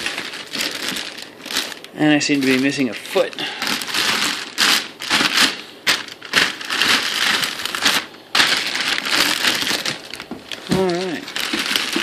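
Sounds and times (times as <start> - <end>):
packing material crinkling: 0.0 - 12.0.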